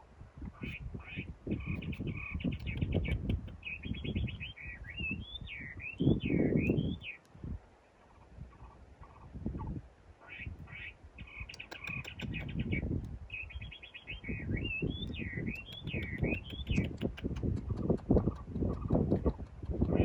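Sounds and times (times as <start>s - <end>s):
bird singing: 0.6s - 7.2s, 10.2s - 20.0s.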